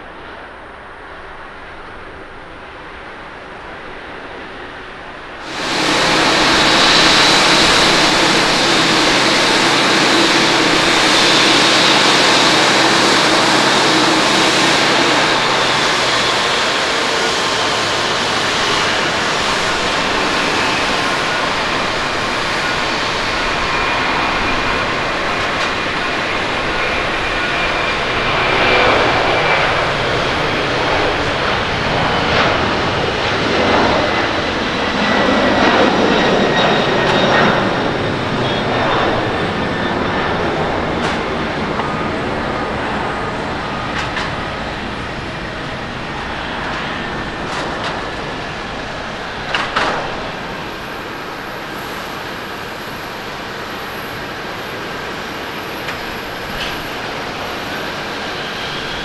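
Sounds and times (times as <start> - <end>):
high jet whine: 0.0 - 59.0
jet engines roaring: 0.0 - 59.0.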